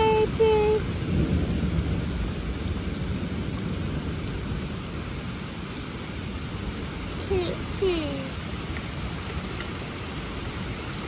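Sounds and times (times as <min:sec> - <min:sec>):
rain on patio and leaves: 0:00.0 - 0:11.0.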